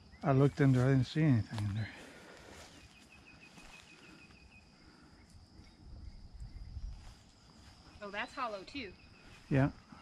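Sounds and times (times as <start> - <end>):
high-pitched insect hum: 0.0 - 10.0.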